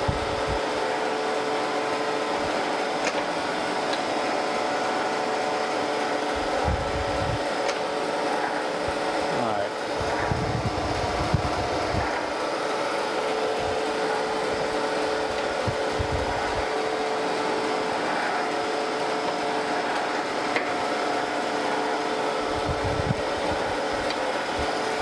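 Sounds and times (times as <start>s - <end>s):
surface grinder humming: 0.0s - 25.0s.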